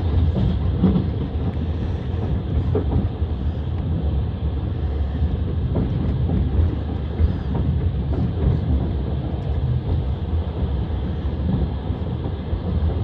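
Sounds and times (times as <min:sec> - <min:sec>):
faint rail clacks: 0:00.0 - 0:04.2, 0:04.9 - 0:13.0
train wheels rumbling on rails: 0:00.0 - 0:13.0.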